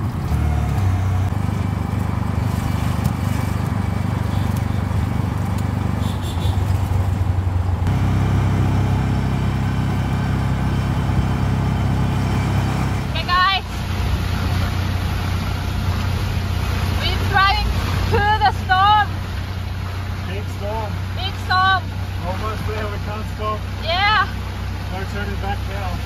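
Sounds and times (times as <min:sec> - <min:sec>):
auto-rickshaw engine running: 0:00.0 - 0:26.0
road and wind noise: 0:00.0 - 0:26.0.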